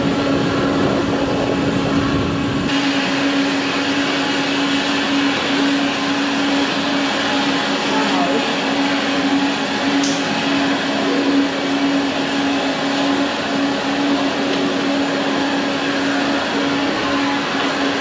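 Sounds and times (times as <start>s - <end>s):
constant low hum: 0.0s - 18.0s
jet turbine roar: 0.0s - 18.0s.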